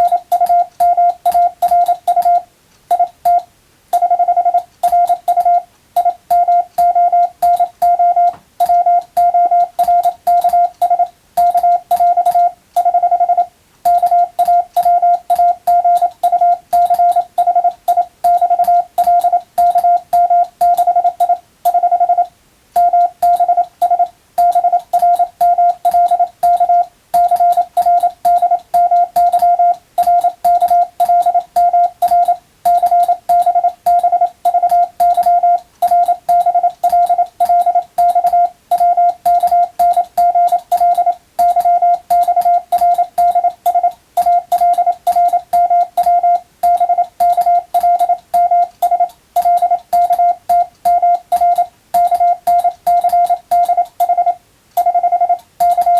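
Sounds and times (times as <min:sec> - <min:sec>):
morse code beeps: 0:00.0 - 0:55.9.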